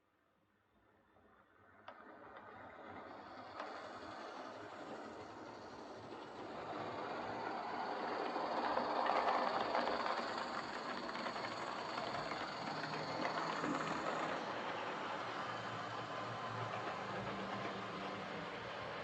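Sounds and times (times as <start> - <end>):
wheels clicking over rails: 1.9 - 19.0
model train motor whirring: 2.6 - 19.0.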